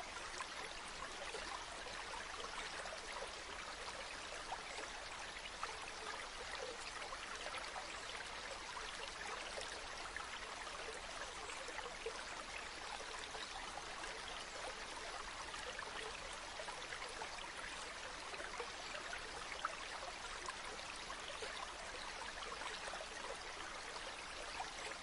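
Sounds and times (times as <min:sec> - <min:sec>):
stream flowing over stones: 0:00.0 - 0:25.0.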